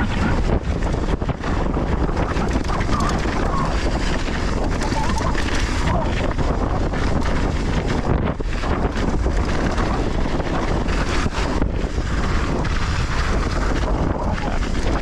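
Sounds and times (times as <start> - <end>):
bike clattering over trail: 0.0 - 15.0
wind rushing over microphone: 0.0 - 15.0.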